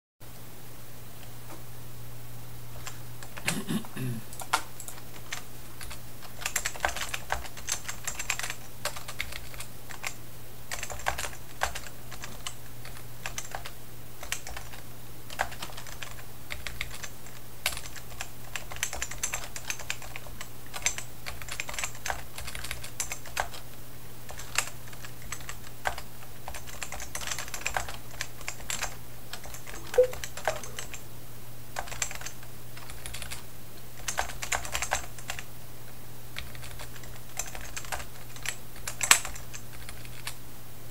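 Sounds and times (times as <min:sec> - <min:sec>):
typing on keyboard: 0:04.3 - 0:23.6, 0:24.3 - 0:31.0, 0:31.8 - 0:33.4, 0:34.0 - 0:35.5, 0:36.4 - 0:40.4.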